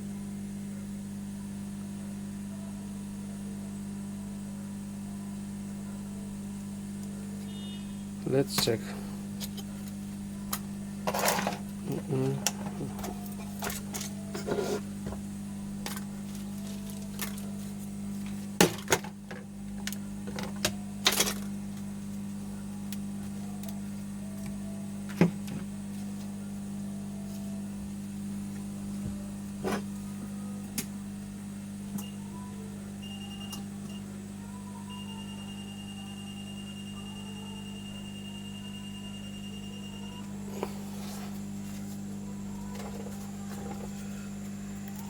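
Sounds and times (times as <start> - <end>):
electrical hum: 0.0 - 45.0.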